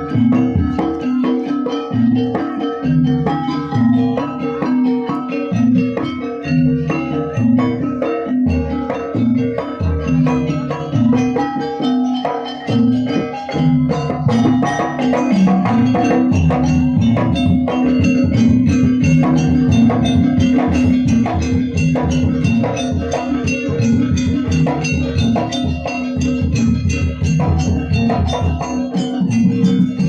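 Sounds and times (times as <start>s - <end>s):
drums: 0.0s - 30.0s
tuned mallet percussion: 0.0s - 30.0s.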